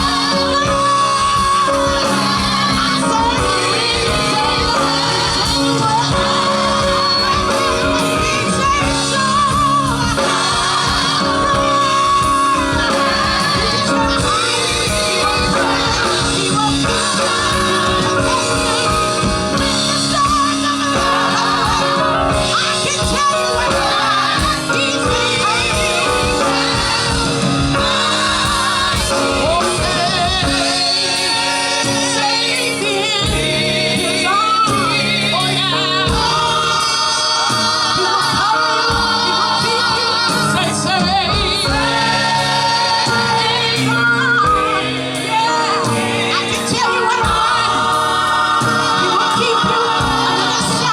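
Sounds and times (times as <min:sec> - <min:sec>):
band playing steady beat: 0:00.0 - 0:50.9
gospel singers with vibrato: 0:00.0 - 0:50.9.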